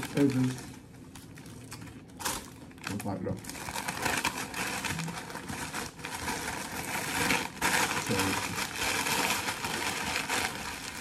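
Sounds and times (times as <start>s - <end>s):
paper wrapper crumpling: 0.0s - 11.0s.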